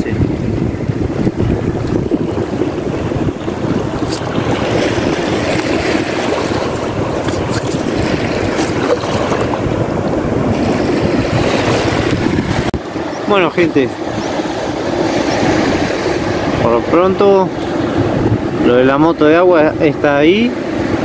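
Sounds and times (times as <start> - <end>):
surf washing onto beach: 0.0 - 21.0
wind on microphone: 0.0 - 21.0.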